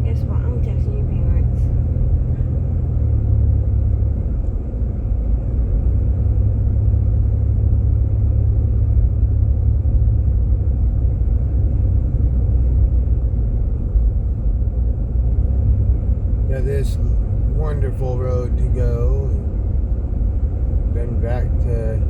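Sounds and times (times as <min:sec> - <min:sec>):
car driving in cabin: 0:00.0 - 0:22.0
tyres on snowy road: 0:00.0 - 0:22.0.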